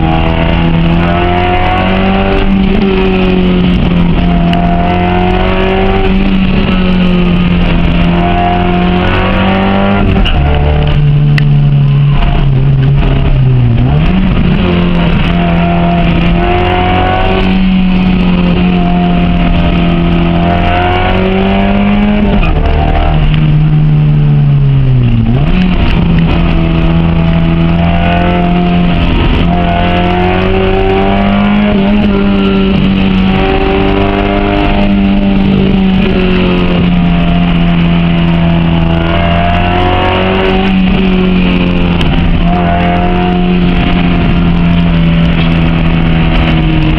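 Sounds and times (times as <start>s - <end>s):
car engine revving high: 0.0s - 46.9s.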